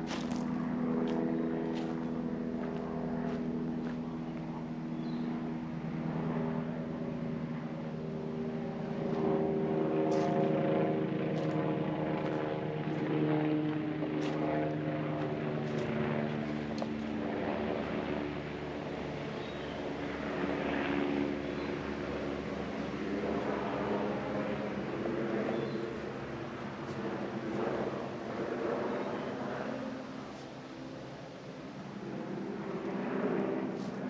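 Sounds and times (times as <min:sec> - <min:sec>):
engine drone: 0:00.0 - 0:34.0.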